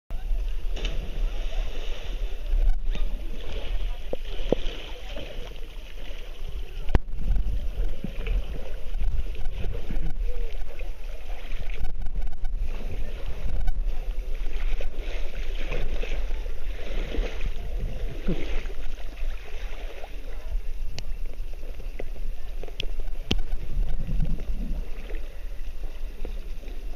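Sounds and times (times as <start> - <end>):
low rumble on microphone: 0.1 - 26.9
water lapping and splashing: 0.2 - 26.9.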